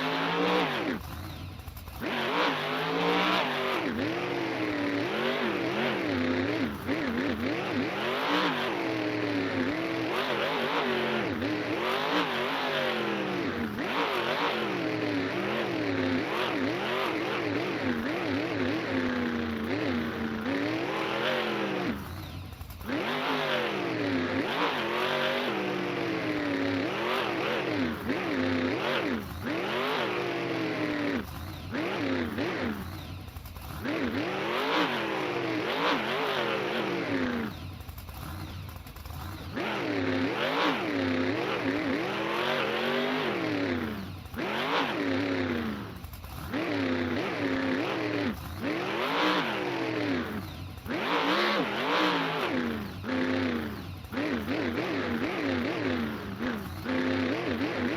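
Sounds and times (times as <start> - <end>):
monster truck engine revving: 0.0 - 57.9.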